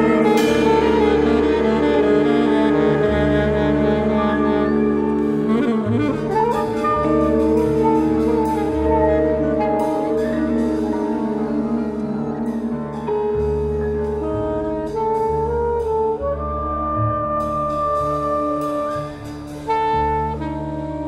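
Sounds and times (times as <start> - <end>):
saxophone lines: 0.0 - 21.0
sustained bass notes: 0.0 - 21.0.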